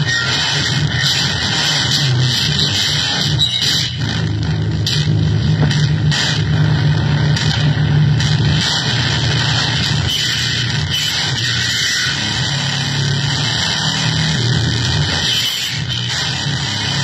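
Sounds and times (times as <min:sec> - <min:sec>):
harsh electronic keyboard noise: 0:00.0 - 0:17.0.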